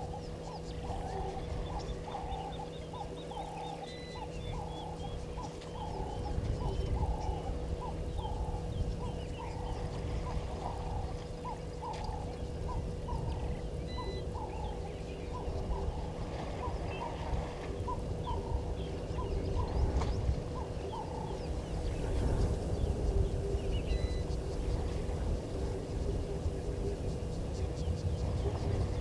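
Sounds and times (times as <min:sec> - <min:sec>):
faint steady hum: 0:00.0 - 0:29.0
low rumbling noise: 0:00.0 - 0:29.0.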